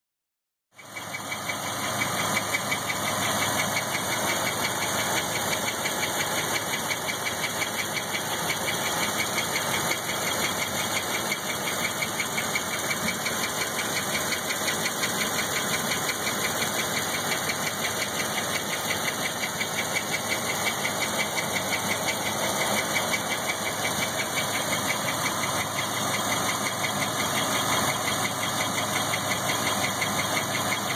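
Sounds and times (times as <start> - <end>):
car engine running: 0.8 - 30.9
fast regular chirping noise: 0.8 - 30.9.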